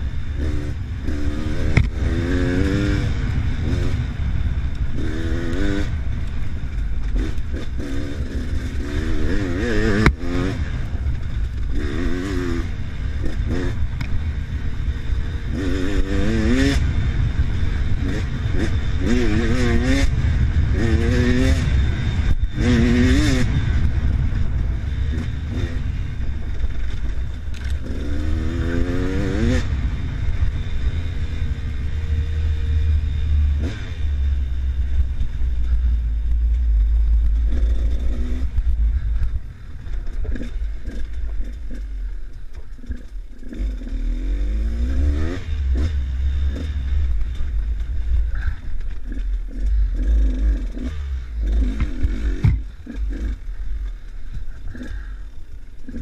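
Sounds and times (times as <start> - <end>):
low rumble and clatter: 0.0 - 56.0
motorcycle engine revving: 0.0 - 56.0.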